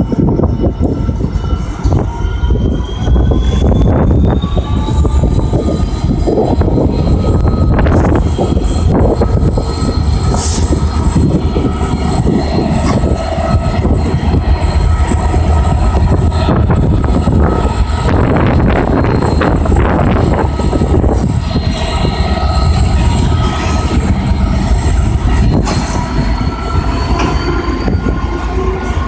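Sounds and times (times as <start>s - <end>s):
freight train wheels rumbling: 0.0s - 29.0s
wheels squealing: 0.6s - 29.0s.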